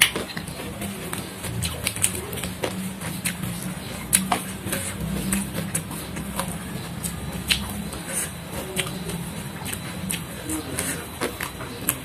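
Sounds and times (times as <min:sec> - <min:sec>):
chewing crunchy vegetables: 0:00.0 - 0:12.0
steady low hum: 0:00.0 - 0:12.0.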